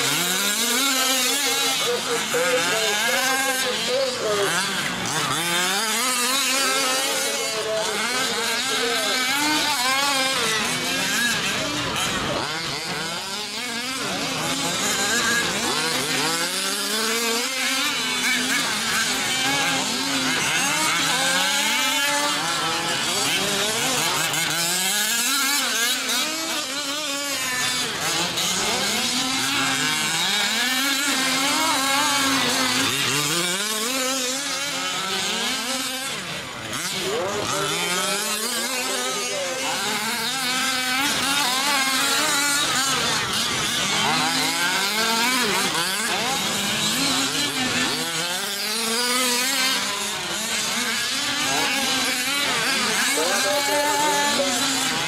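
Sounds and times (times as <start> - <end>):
rc truck engines revving: 0.0 - 55.0.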